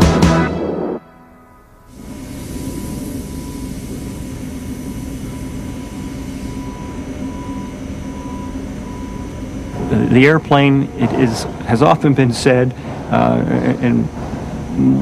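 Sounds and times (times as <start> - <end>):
factory machinery drone: 0.0 - 15.0
thin steady whine: 0.0 - 15.0.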